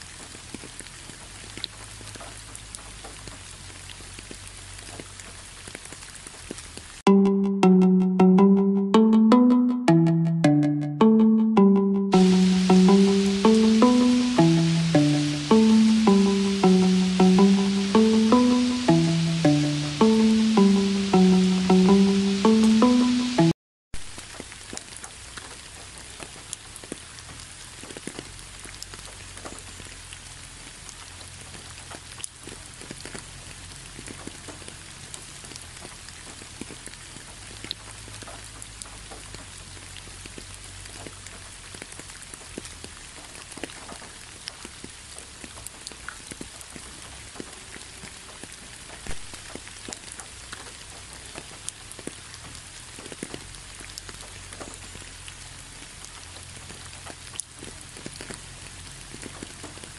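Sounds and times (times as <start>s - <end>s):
steady rain falling: 0.0s - 7.0s, 12.1s - 23.4s, 24.1s - 59.9s.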